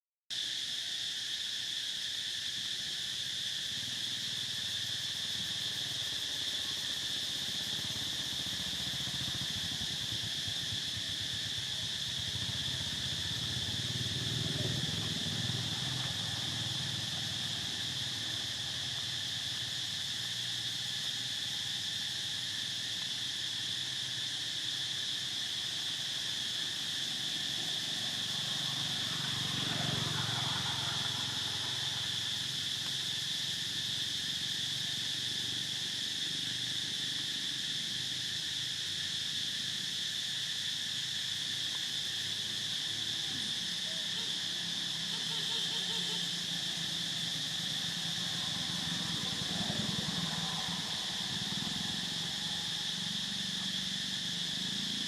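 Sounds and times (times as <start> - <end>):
insect chorus drone: 0.3 - 55.0.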